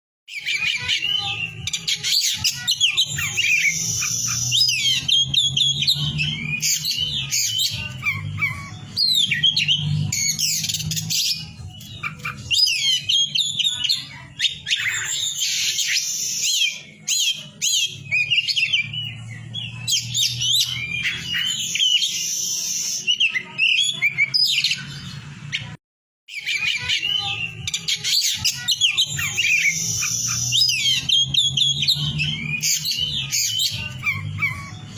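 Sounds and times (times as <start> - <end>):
bird singing whistles and trills: 0.3 - 34.9.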